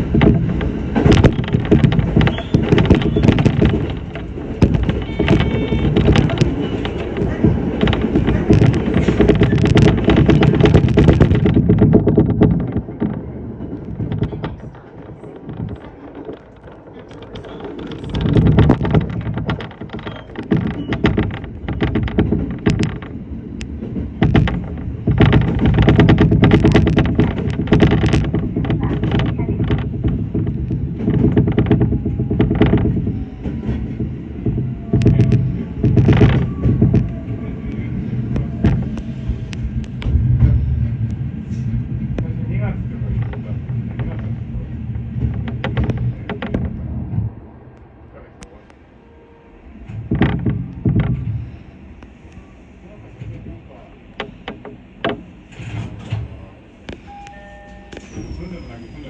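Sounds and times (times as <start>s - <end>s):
electric train wheels rumbling: 0.0s - 59.0s
track clicks and knocks: 0.0s - 59.0s.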